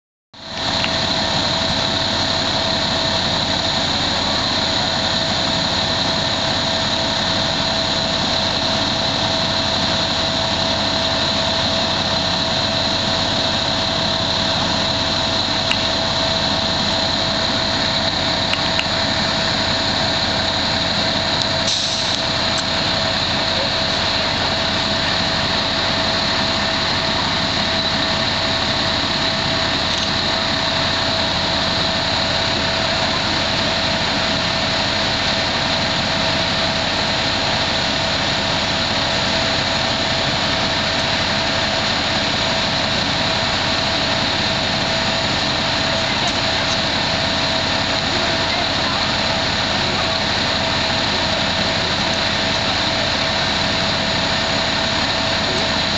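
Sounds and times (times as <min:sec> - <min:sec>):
constant whine: 0:00.4 - 0:55.9
fire engine running: 0:00.4 - 0:55.9.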